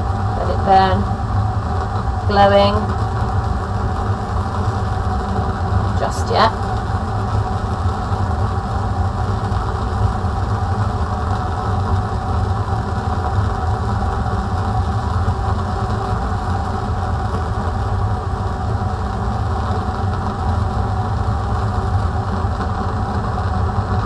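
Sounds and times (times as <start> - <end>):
bunsen burner flame burning: 0.0 - 24.0
extraction fan rumble: 0.0 - 24.0.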